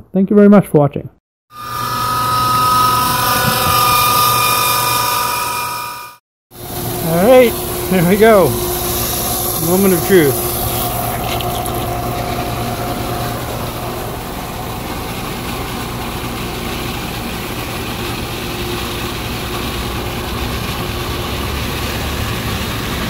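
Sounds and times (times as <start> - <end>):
electric pump motor running: 1.5 - 23.0.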